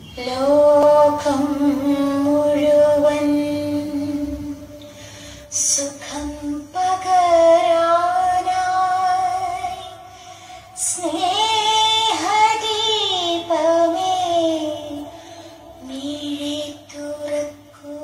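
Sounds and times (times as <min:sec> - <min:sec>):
woman singing slowly: 0:00.0 - 0:10.1, 0:10.7 - 0:18.0.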